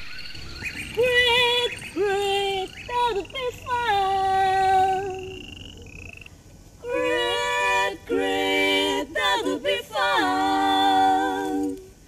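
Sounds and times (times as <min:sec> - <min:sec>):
women singing unaccompanied: 0:01.0 - 0:05.6, 0:06.8 - 0:12.0.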